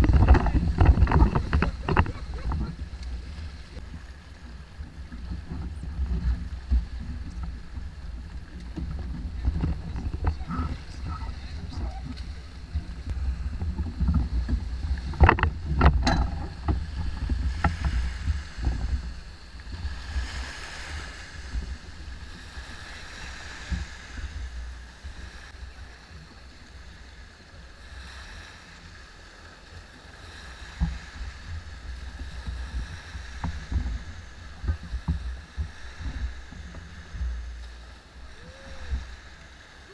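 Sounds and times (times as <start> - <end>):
wind noise on microphone: 0.0 - 26.2, 30.3 - 39.9
small waves washing against hull: 0.0 - 39.9.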